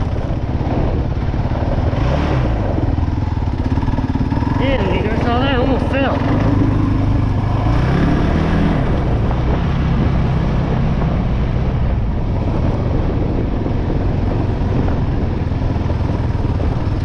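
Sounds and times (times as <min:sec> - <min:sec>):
quad bike engine running: 0:00.0 - 0:17.0
wind noise on microphone: 0:00.0 - 0:17.0.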